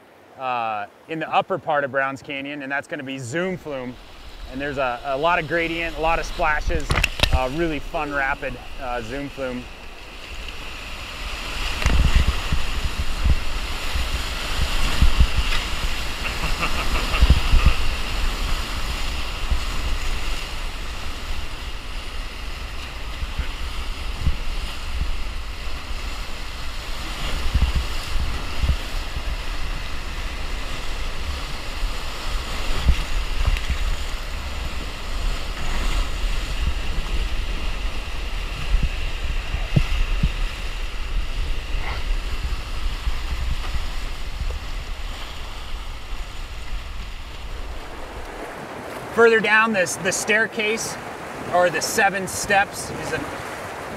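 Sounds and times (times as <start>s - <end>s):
whitewater rushing and splashing: 0.0s - 53.9s
wind buffeting microphone: 3.6s - 49.1s.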